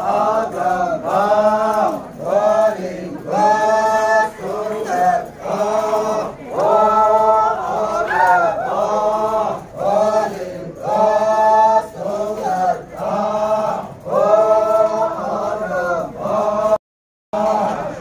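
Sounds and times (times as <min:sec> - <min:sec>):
men chanting in unison: 0:00.0 - 0:16.8, 0:17.4 - 0:18.0.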